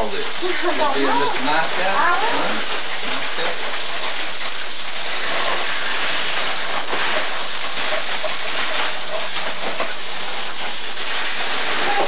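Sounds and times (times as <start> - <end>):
video recording hiss: 0.0 - 12.0
tissue paper rustling: 0.4 - 12.0.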